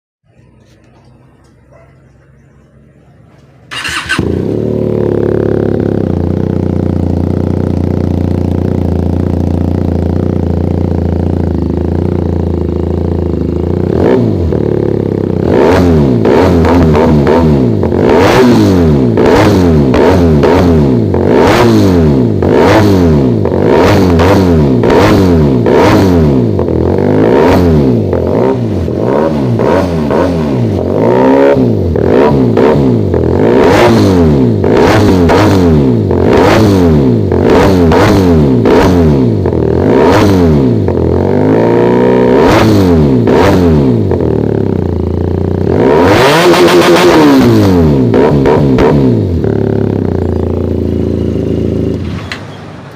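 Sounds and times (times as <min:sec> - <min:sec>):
motorcycle engine idling and revving: 0:00.2 - 0:52.9.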